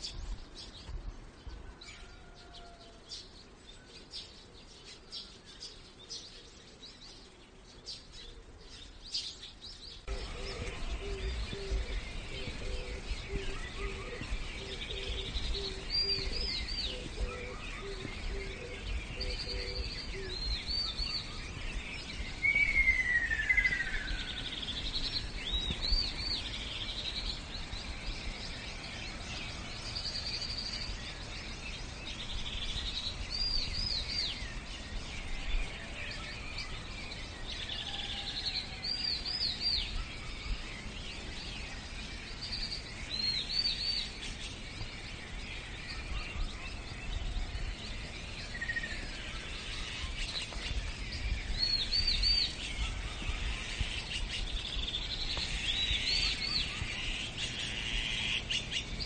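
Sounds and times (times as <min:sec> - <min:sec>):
birds chirping and trilling: 0:00.0 - 0:59.0
outdoor hiss and rumble: 0:00.0 - 0:59.0.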